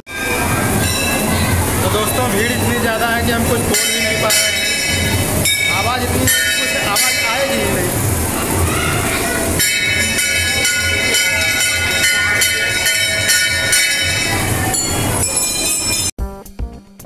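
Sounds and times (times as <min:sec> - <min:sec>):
temple bells clanging: 0:00.1 - 0:16.1.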